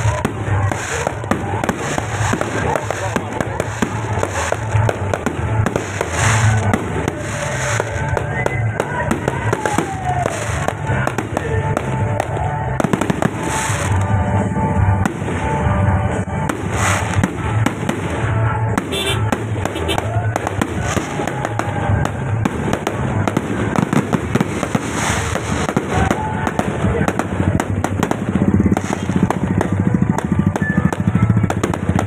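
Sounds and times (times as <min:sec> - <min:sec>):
background music: 0:00.0 - 0:32.0
fireworks banging and crackling: 0:00.0 - 0:32.0.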